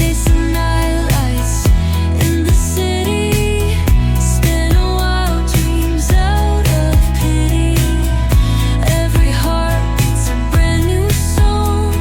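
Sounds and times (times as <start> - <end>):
pop song with steady beat: 0.0 - 12.0.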